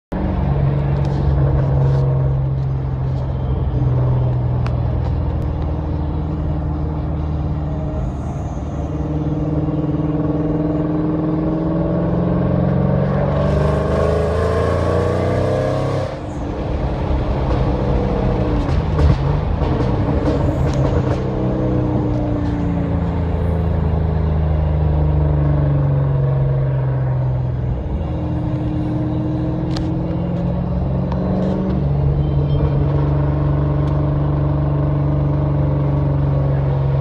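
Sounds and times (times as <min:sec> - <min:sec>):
car engine accelerating: 0:00.1 - 0:37.0.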